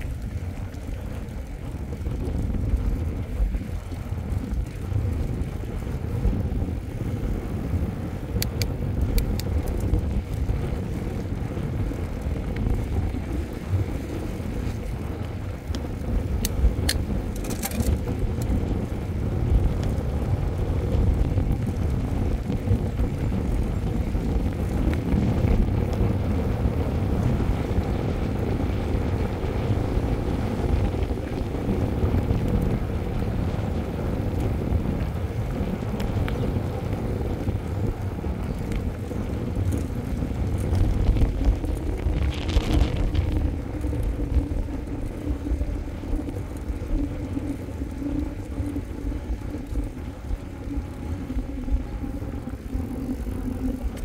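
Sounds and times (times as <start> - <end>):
bike tyres rolling on asphalt: 0.0 - 54.0
wind buffeting microphone: 0.0 - 54.0.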